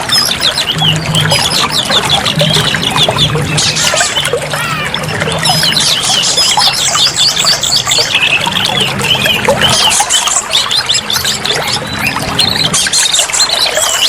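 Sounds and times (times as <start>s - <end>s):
bird singing chirps and whistles: 0.0s - 14.0s
trickling water: 0.0s - 14.0s.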